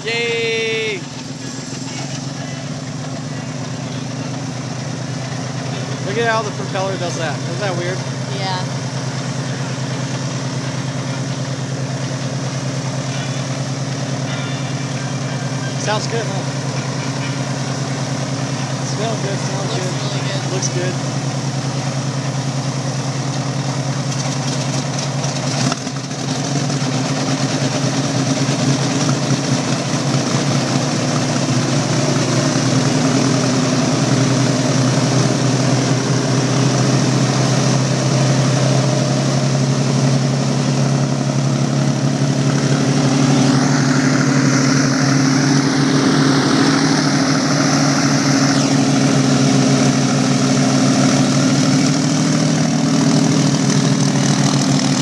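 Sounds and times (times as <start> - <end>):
propeller plane taxiing: 0.0 - 55.0.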